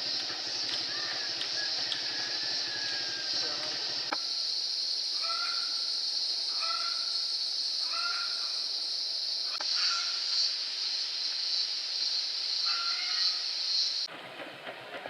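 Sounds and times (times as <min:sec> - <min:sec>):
high-pitched insect chorus: 0:00.0 - 0:14.1.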